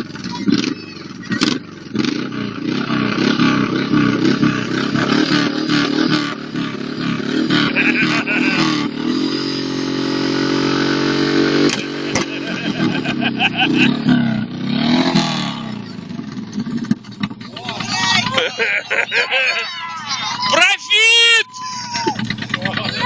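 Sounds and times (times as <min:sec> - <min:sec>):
motorcycle engine revving: 0:00.0 - 0:20.6, 0:21.4 - 0:23.0.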